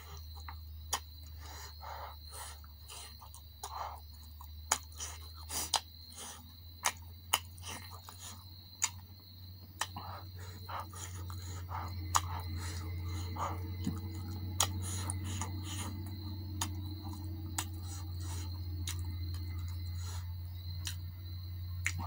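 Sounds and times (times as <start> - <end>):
person chewing food: 0.0 - 22.0
steady low hum: 0.0 - 22.0
lip-smacking clicks: 0.2 - 1.6, 2.4 - 22.0.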